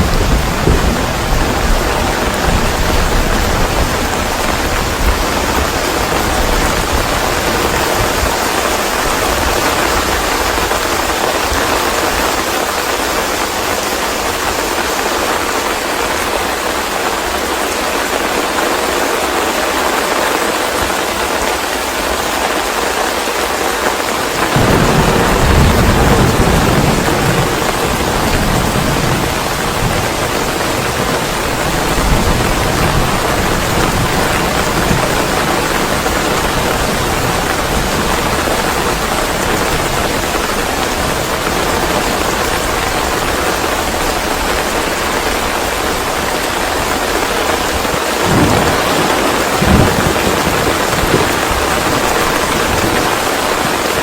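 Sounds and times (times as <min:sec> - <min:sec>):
thunder rumbling: 0:00.0 - 0:14.4, 0:24.3 - 0:54.0
loud rain hiss: 0:00.0 - 0:54.0.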